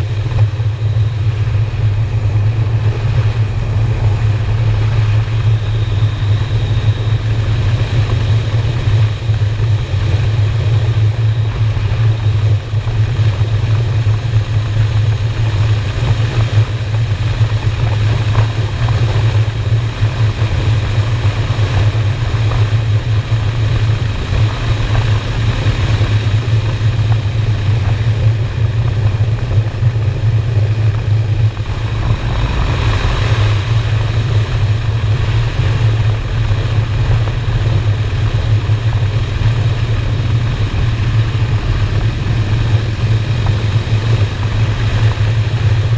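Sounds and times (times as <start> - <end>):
motorcycle engine droning: 0.0 - 45.9.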